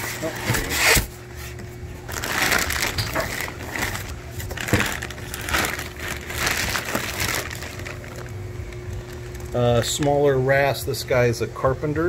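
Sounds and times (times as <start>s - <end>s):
plastic sheet rustling: 0.0s - 10.0s.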